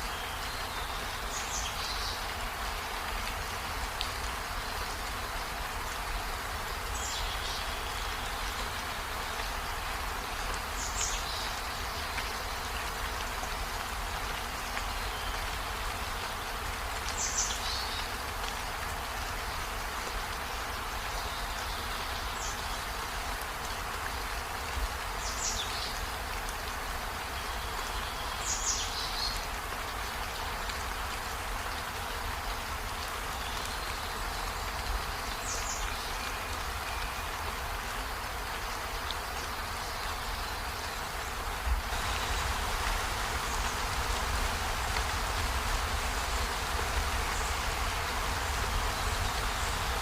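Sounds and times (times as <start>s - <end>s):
rain on trees and window: 0.0s - 50.0s.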